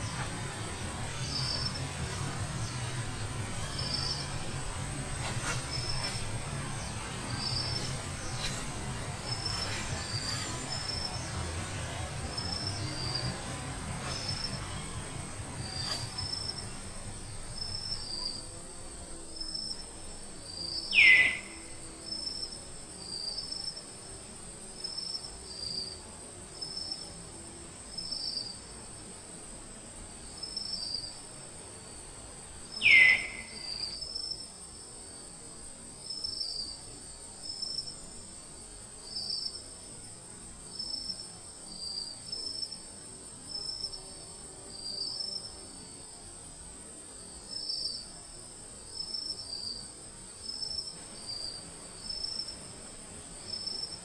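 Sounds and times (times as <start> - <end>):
insects buzzing high: 0.0 - 54.0.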